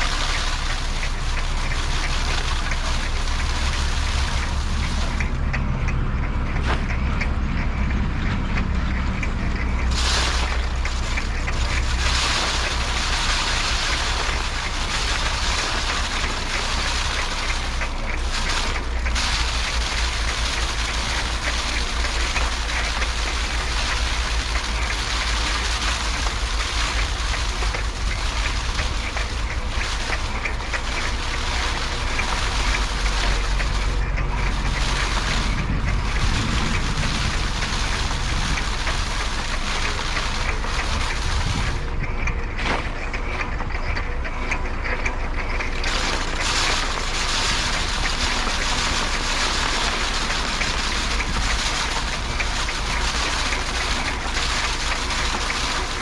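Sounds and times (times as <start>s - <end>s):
low rumble: 0.0s - 54.9s
thresher drum whirring: 0.0s - 56.0s.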